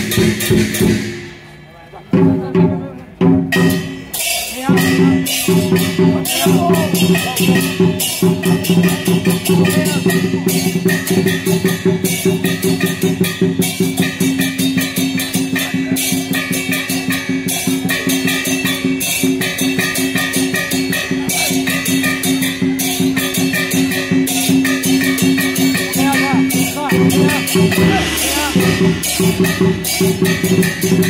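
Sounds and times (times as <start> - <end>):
upbeat music with drums: 0.0 - 1.5, 2.1 - 31.0.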